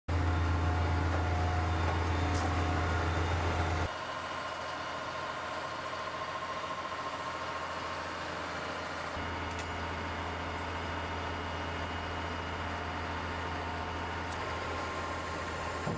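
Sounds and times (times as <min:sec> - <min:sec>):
truck engine humming: 0:00.1 - 0:15.9.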